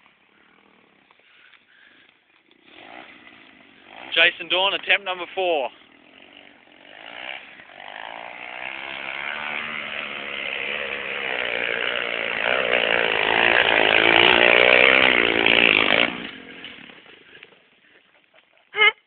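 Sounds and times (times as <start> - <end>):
motorbike engine revving: 0.0 - 17.8.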